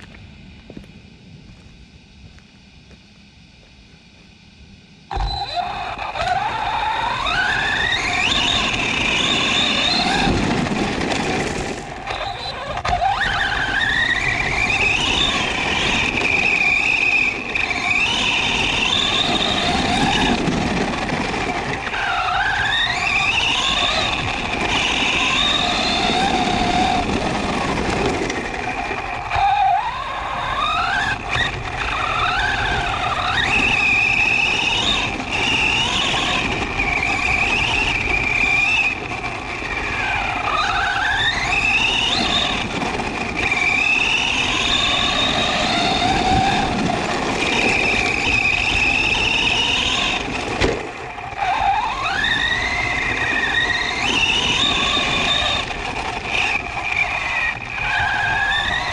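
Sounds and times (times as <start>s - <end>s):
toy truck electric motor whining: 5.1s - 58.9s
tyres rushing on gravel: 5.1s - 58.9s.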